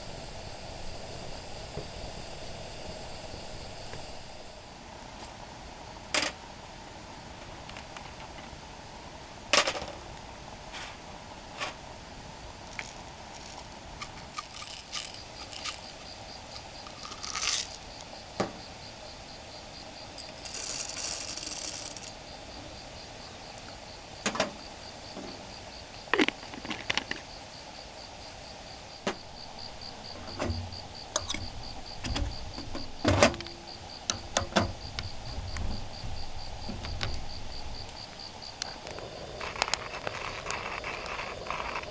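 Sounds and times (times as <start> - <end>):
insect chirping: 0.0 - 4.9, 11.6 - 41.9.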